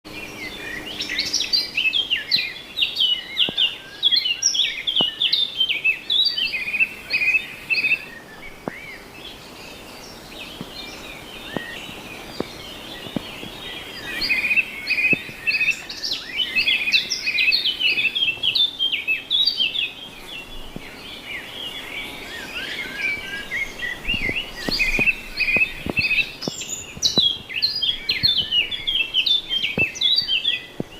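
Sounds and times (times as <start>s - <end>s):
flock of small birds chirping: 0.1s - 30.9s.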